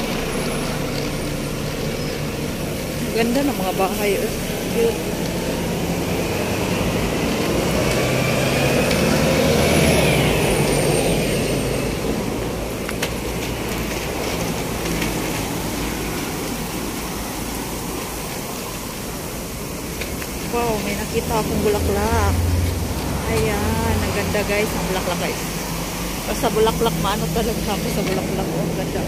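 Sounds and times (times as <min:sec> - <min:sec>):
engine whine: 0:00.0 - 0:29.0
passing vehicle engine: 0:00.0 - 0:29.0.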